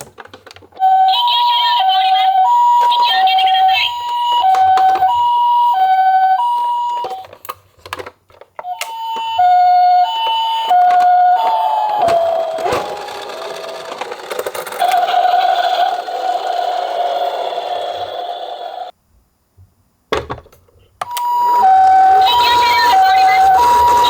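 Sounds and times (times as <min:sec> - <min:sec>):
toy two-tone siren: 0:00.8 - 0:07.3, 0:08.6 - 0:18.9, 0:21.1 - 0:24.0.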